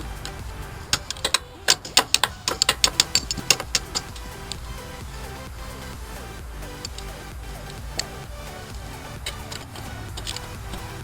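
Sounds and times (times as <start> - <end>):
synth music with bass: 0.0 - 11.0.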